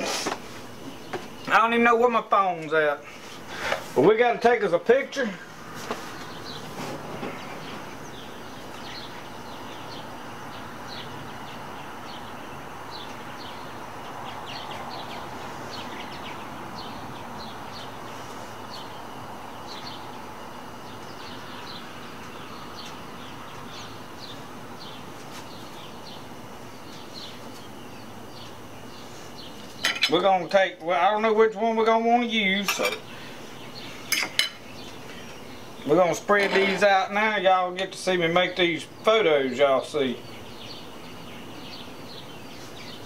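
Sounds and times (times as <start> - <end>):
background hiss: 0.0 - 43.0
small birds chirping: 0.0 - 43.0.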